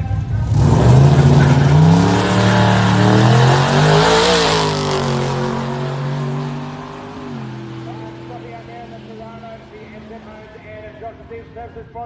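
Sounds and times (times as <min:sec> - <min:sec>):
car engine at full throttle: 0:00.0 - 0:11.6.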